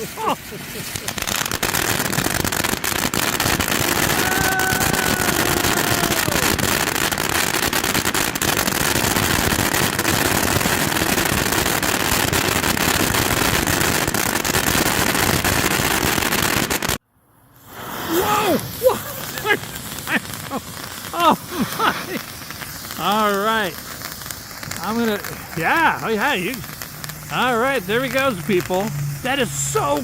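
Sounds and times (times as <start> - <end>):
firework hissing and crackling: 0.0 - 30.0.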